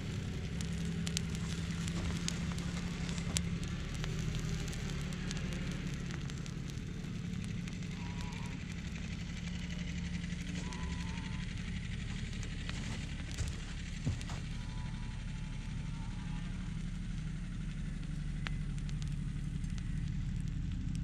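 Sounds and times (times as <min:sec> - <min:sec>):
molten metal crackling on soil: 0:00.0 - 0:21.0
steady low hum: 0:00.0 - 0:21.0.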